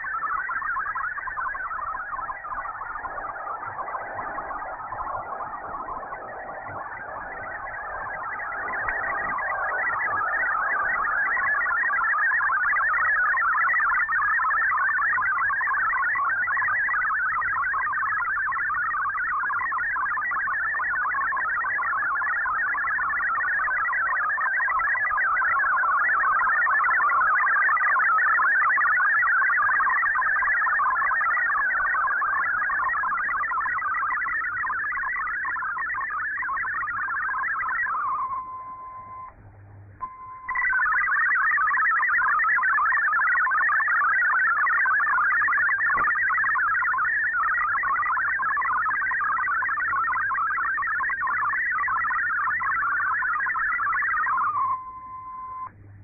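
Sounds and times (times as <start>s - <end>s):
digital radio signal warble: 0.0s - 39.4s, 40.0s - 55.7s.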